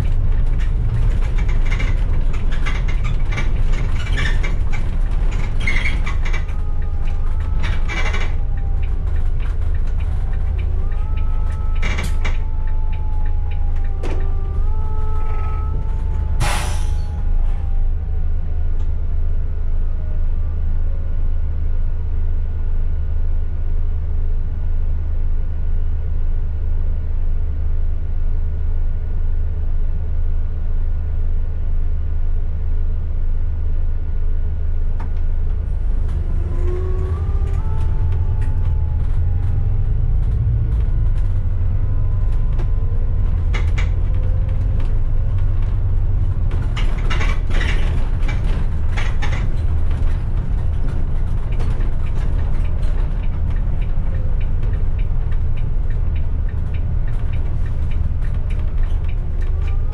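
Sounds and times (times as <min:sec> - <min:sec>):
bus engine hum: 0:00.0 - 0:59.9
drivetrain whine: 0:00.0 - 0:59.9.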